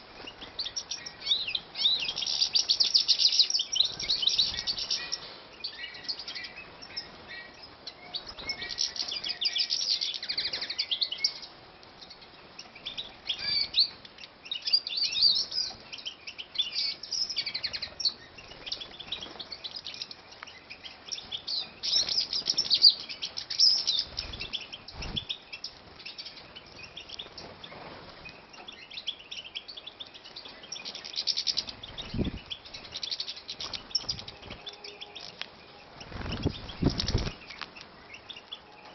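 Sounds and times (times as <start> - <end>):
finches twittering: 0.0 - 38.6.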